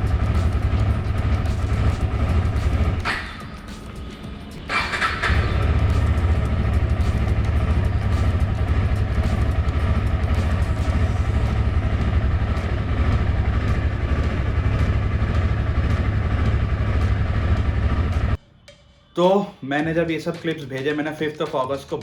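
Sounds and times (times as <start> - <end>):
motorcycle engine idling: 0.0 - 18.4.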